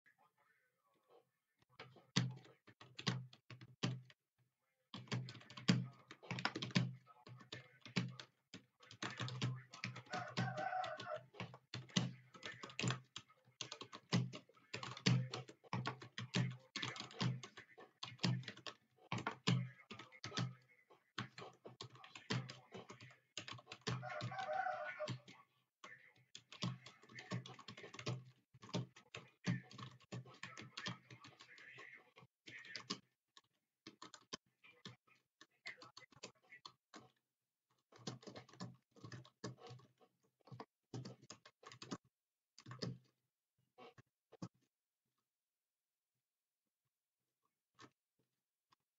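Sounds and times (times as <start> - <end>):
fast keyboard typing: 1.8 - 4.2, 4.9 - 37.2, 37.9 - 42.0, 42.6 - 43.1.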